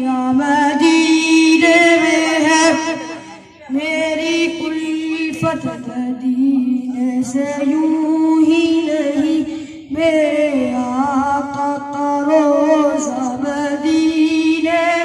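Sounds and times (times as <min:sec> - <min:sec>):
boy singing into a microphone: 0:00.0 - 0:15.0.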